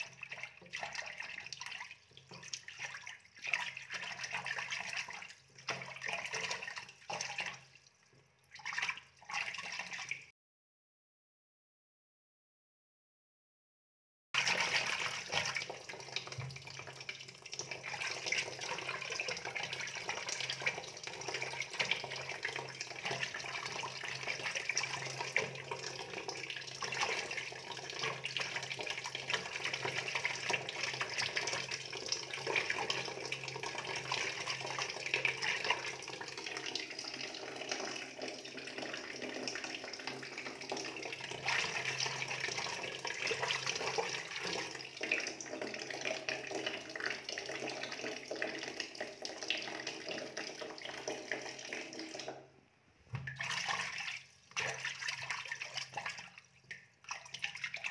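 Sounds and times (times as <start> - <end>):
water splashing and trickling: 0.0 - 10.3, 14.4 - 52.5, 53.1 - 57.9.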